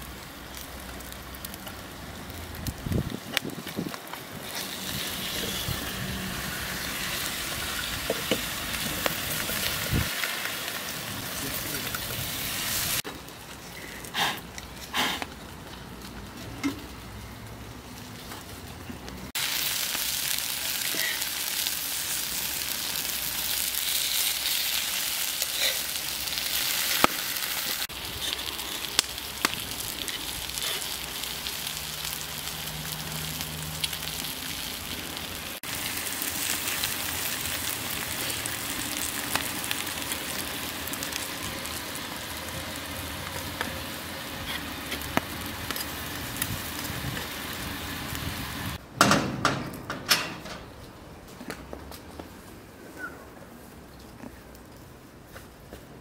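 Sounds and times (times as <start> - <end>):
food sizzling over fire: 0.0 - 48.8.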